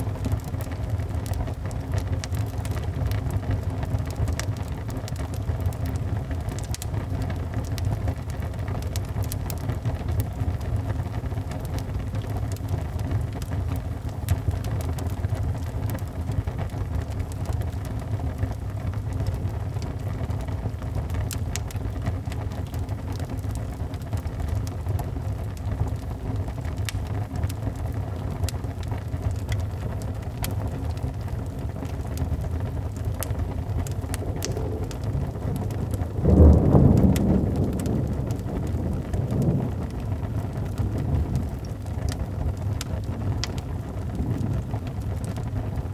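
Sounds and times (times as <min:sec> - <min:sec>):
fire crackling: 0:00.0 - 0:45.9
rain rumbling: 0:00.0 - 0:45.9.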